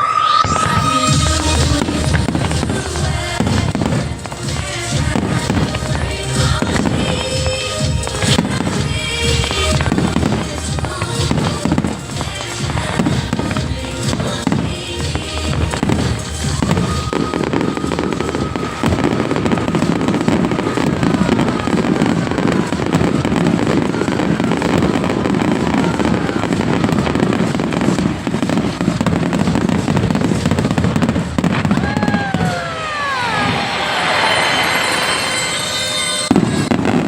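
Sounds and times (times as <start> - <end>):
fireworks bangs and crackling: 0.0 - 37.0
whistling firework shells: 0.0 - 37.0.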